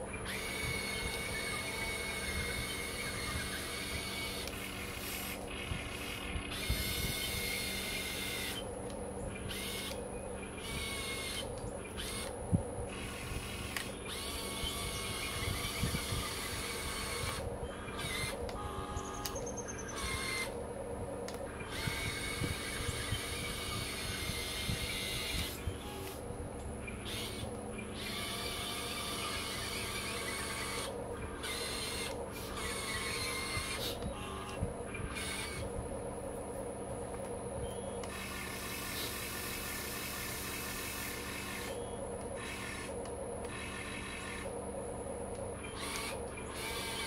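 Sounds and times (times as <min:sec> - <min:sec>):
small electric motors whining: 0:00.0 - 0:47.0.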